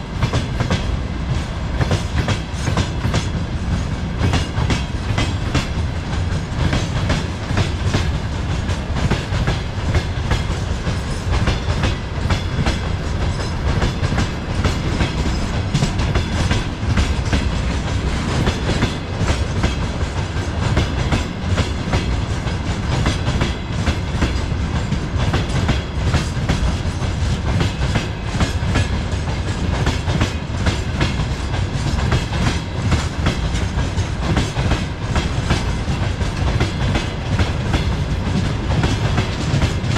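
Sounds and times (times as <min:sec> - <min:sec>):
freight train rumbling: 0:00.0 - 0:39.9
train wheels clacking on rails: 0:00.0 - 0:39.9.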